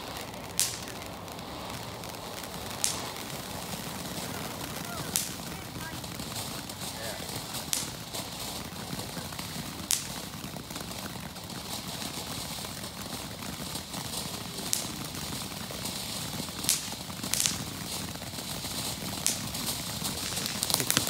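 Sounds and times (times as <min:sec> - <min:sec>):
firework fountain hissing: 0:00.0 - 0:21.0
sharp crackling pops: 0:00.0 - 0:21.0.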